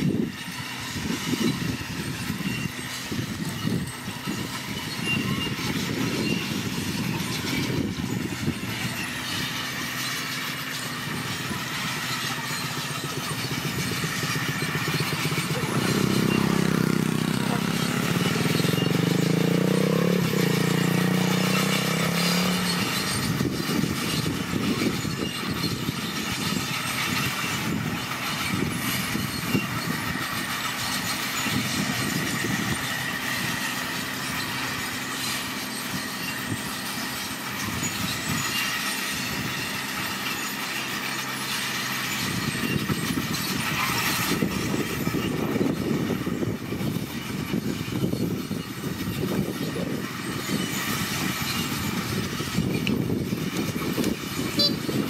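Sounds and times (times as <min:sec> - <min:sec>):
bulldozer diesel engine: 0:00.0 - 0:55.0
steel tracks clattering: 0:00.0 - 0:55.0.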